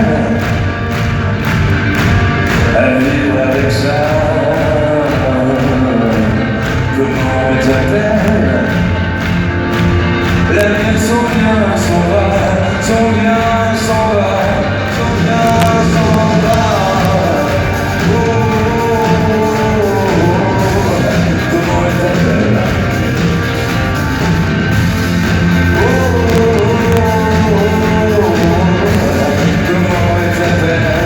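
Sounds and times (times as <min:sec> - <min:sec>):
live pop-rock band playing: 0:00.0 - 0:31.0.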